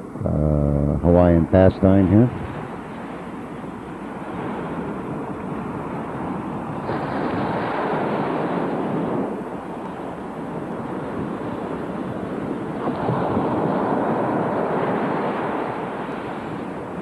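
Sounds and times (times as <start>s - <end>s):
ocean surf washing onto beach: 0.0s - 17.0s
wind on microphone: 0.0s - 17.0s.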